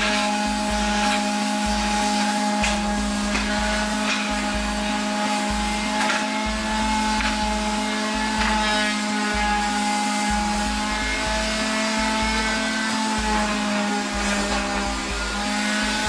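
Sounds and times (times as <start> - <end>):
orbital sander on wood: 0.0 - 16.0.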